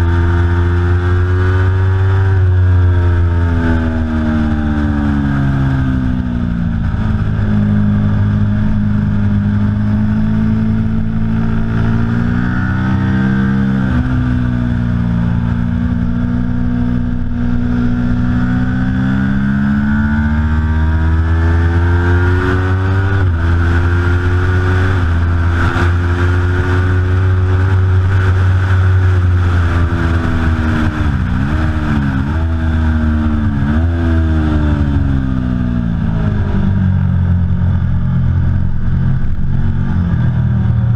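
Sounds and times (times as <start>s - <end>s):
motorcycle engine at racing speed: 0.0s - 40.9s.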